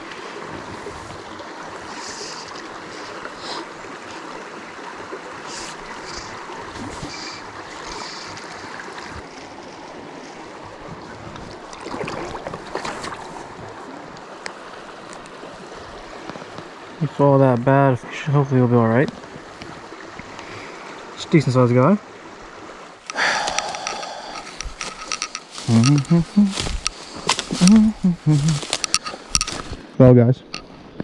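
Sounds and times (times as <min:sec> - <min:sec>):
mountain brook flowing: 0:00.0 - 0:31.0.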